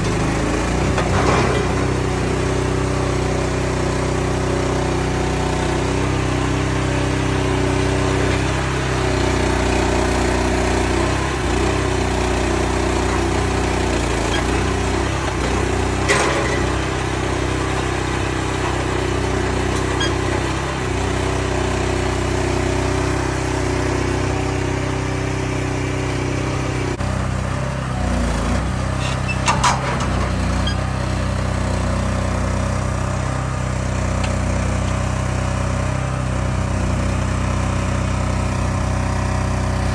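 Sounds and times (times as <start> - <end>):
engine running hydraulics: 0.0 - 39.9.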